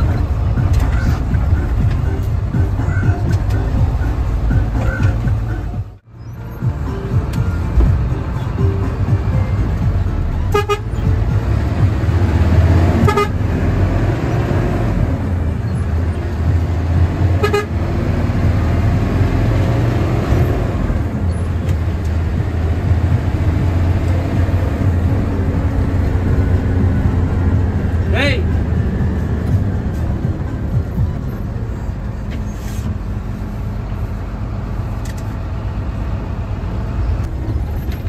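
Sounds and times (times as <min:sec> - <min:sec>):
bus diesel engine rumbling: 0:00.0 - 0:38.0.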